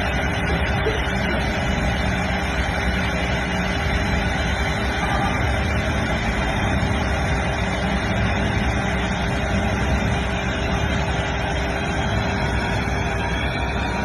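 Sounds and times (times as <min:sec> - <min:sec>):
machinery running: 0:00.0 - 0:14.0.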